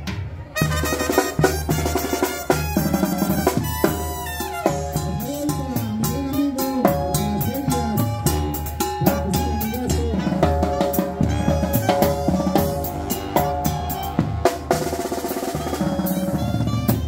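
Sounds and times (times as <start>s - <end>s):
bass drum beats: 0.0s - 17.0s
brass and clarinet notes: 0.6s - 5.9s, 7.5s - 17.0s.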